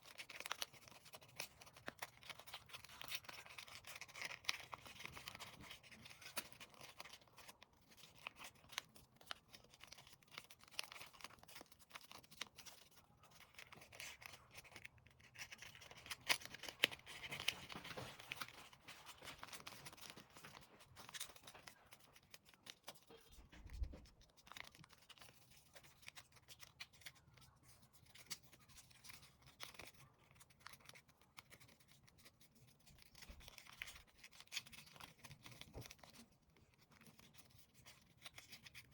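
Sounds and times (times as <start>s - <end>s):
paper rustling and creasing: 0.0s - 38.9s.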